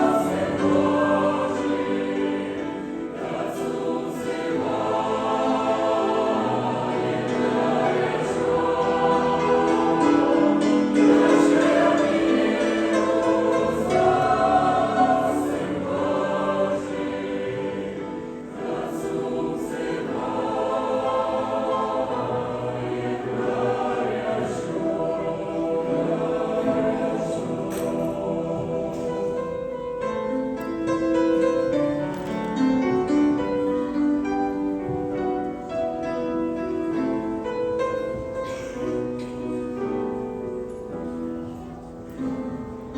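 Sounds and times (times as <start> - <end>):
choir singing: 0.0 - 42.9.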